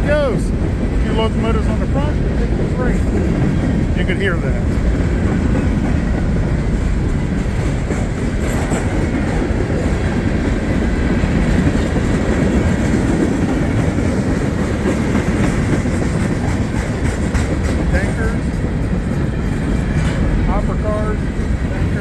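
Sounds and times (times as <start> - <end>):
train wheels rumbling on rail: 0.0 - 22.0
wheels clacking over rail joints: 0.0 - 22.0.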